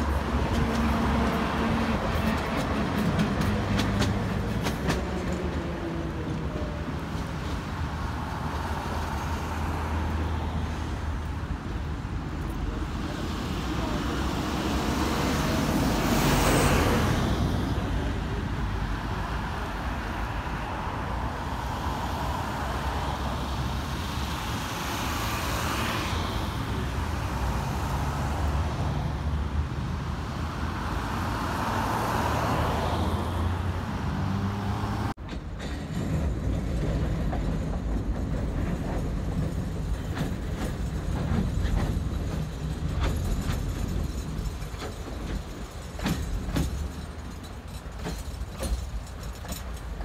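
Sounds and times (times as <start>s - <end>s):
passing vehicles: 0.0s - 50.0s
tram running on bridge: 0.0s - 50.0s.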